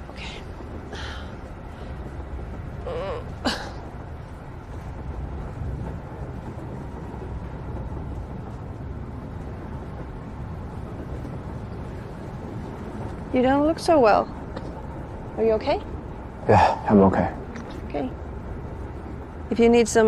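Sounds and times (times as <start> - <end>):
vehicle rumble inside cabin: 0.0 - 20.0.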